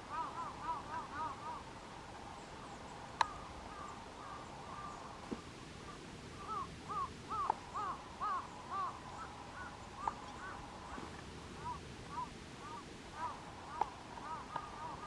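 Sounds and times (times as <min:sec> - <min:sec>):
bird calling: 0:00.0 - 0:01.8, 0:02.4 - 0:15.0.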